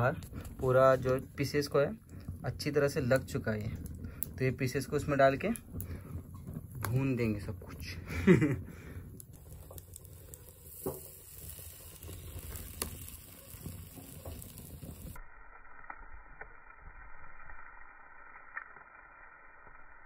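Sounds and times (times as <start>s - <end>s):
burning wood crackling and popping: 0.0s - 20.0s
meat sizzling on a grill: 0.0s - 20.0s.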